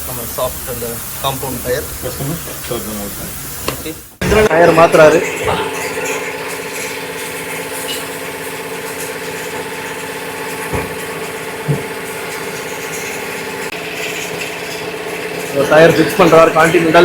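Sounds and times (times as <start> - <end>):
tyre-changing machine humming: 0.0 - 17.0.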